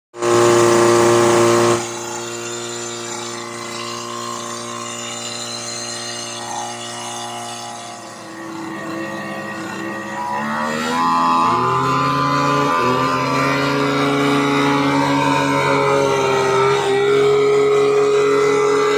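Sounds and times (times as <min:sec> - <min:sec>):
pump engine running: 0:00.2 - 0:18.9.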